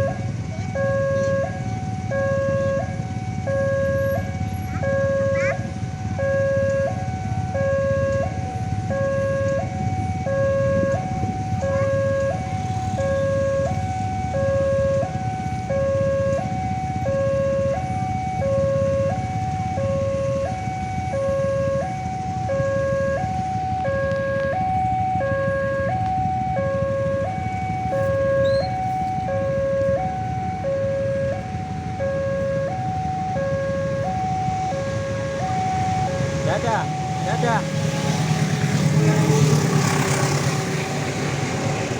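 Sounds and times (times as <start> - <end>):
low steady rumble: 0.0 - 41.2
two-tone crossing alarm: 0.0 - 41.9.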